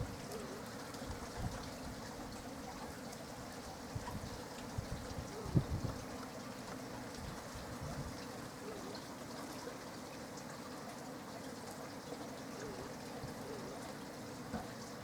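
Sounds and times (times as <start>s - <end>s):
steady rain: 0.0s - 15.0s
water trickling: 0.0s - 15.0s.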